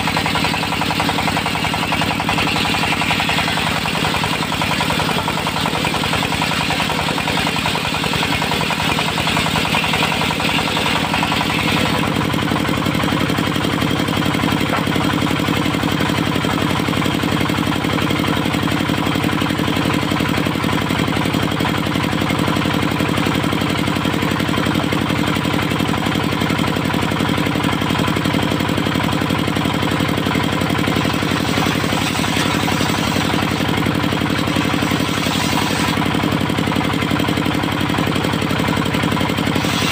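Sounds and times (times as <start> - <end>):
portable sawmill engine running: 0.0 - 39.9.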